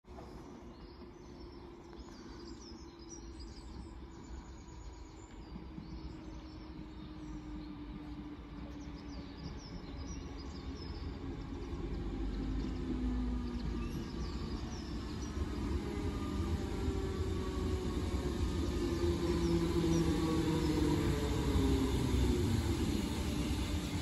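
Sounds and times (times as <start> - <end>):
birds chirping: 0.1 - 24.0
electric train approaching: 0.1 - 24.0.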